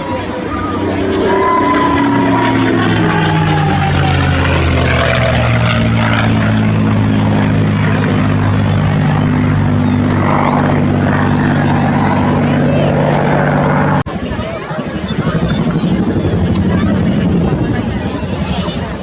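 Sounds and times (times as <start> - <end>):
helicopter rotors and engines: 0.0 - 19.0.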